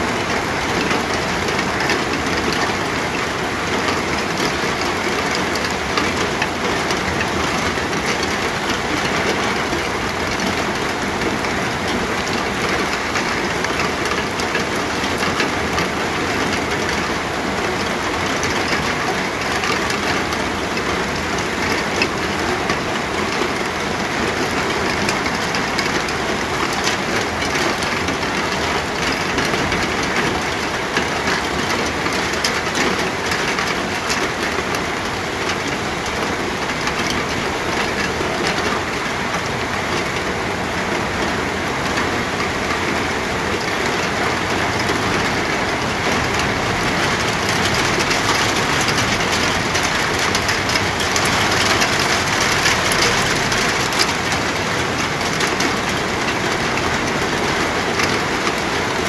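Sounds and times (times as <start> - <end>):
steady rain falling: 0.0 - 59.0
raindrops ticking on hard surface: 0.2 - 59.0.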